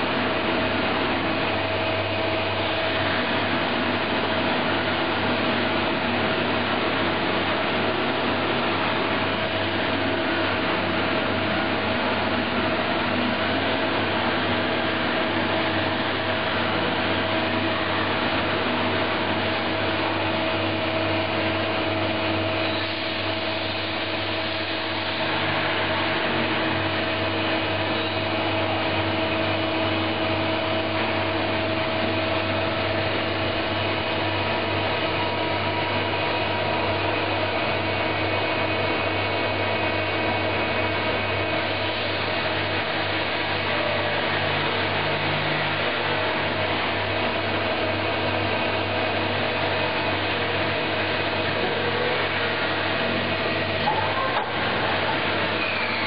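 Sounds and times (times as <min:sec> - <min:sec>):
machine hum with whining tones: 0:00.0 - 0:56.0.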